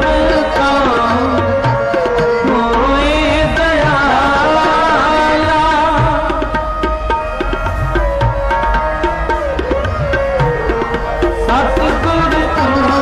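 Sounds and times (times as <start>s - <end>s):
tabla playing: 0.0s - 13.0s.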